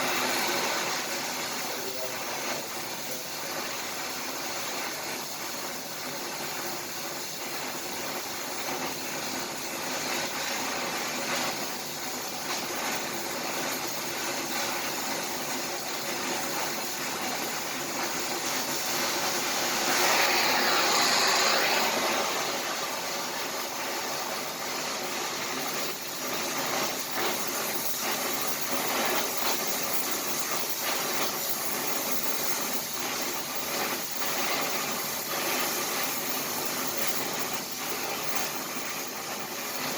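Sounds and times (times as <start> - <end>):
arc welding crackling hiss: 0.0 - 39.9.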